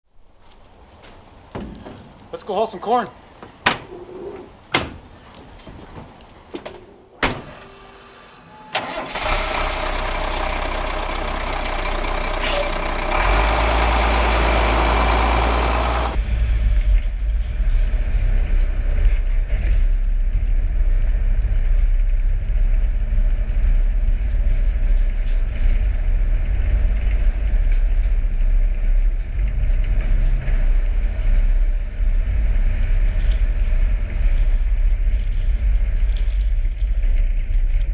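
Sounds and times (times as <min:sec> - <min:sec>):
truck engine running: 0:07.4 - 0:37.8.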